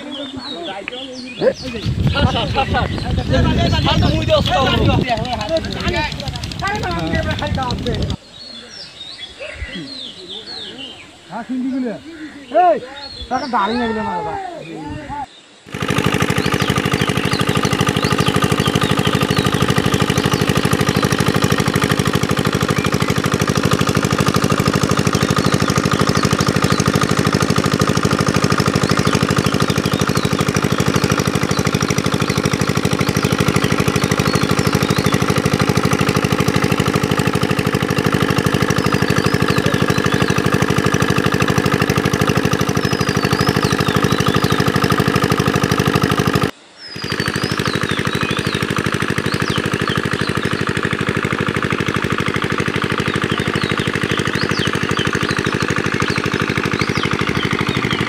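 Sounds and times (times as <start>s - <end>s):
diesel engine knocking beat: 2.2s - 8.2s, 15.7s - 58.0s.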